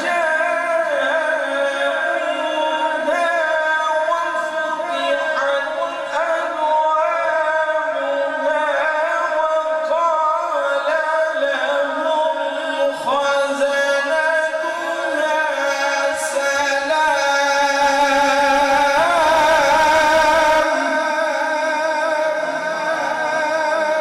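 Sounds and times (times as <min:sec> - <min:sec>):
man reciting melodically: 0:00.0 - 0:24.0.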